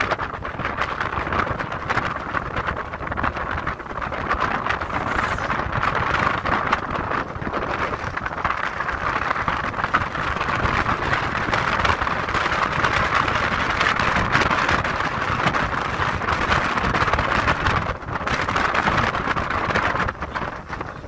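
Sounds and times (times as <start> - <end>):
tyre and road noise: 0.0 - 21.0
wind noise: 0.0 - 21.0.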